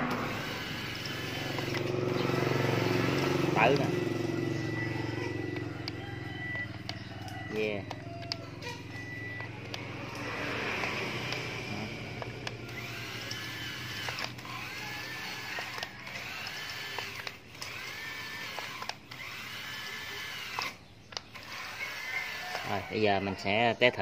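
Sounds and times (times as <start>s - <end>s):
electric steering motor whining: 0.0s - 24.0s
rough steady motor noise: 0.0s - 24.0s.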